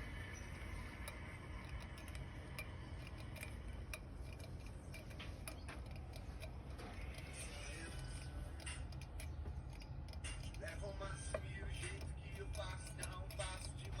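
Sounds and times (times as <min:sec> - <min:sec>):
light metallic clicks: 0:00.0 - 0:14.0
low steady hum: 0:00.0 - 0:14.0.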